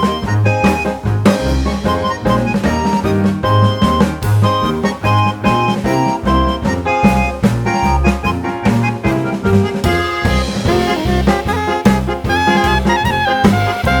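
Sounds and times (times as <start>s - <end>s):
upbeat jazzy swing music: 0.0s - 14.0s.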